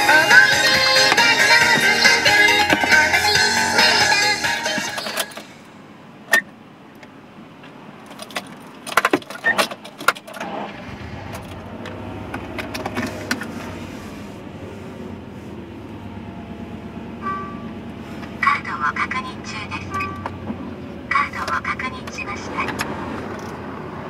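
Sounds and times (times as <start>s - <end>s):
car engine starting and running: 0.0s - 24.0s.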